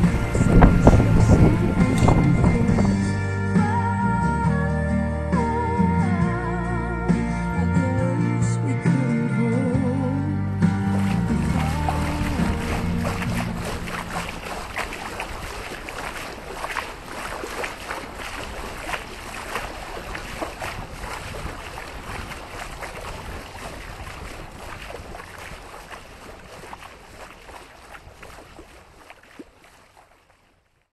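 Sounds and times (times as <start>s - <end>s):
water rushing along hull: 0.0s - 4.6s, 9.7s - 30.9s.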